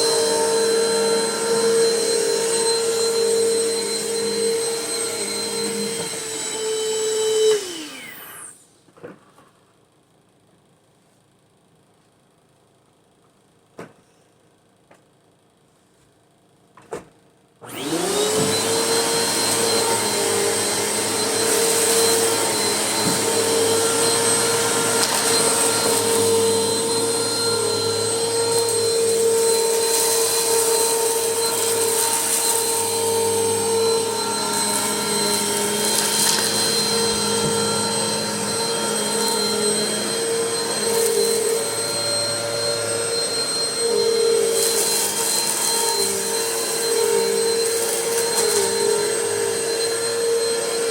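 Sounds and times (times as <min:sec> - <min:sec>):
vacuum cleaner motor whine: 0:00.0 - 0:08.6, 0:17.6 - 0:50.9.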